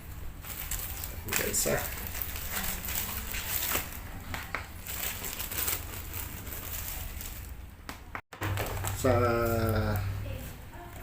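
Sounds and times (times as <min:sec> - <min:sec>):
packaging crinkling and rustling: 0:00.4 - 0:07.6, 0:08.4 - 0:10.1.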